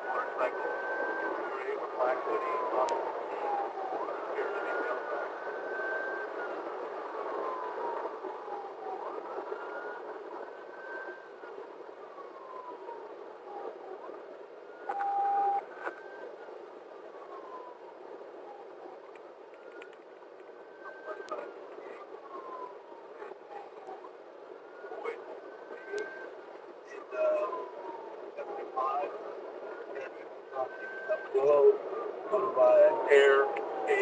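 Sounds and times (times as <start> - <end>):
police siren wailing: 0.0 - 34.0.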